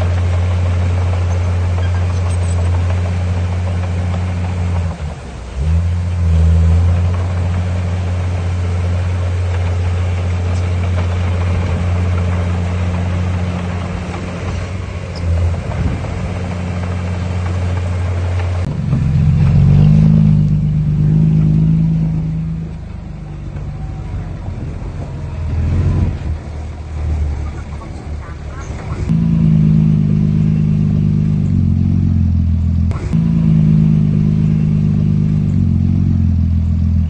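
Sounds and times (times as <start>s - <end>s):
engine revving: 0.0s - 37.0s
heavy diesel engine droning: 0.0s - 37.0s.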